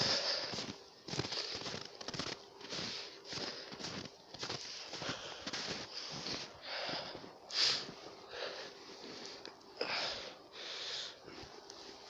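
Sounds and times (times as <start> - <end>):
man breathing heavily: 0.0 - 1.9, 2.6 - 12.0.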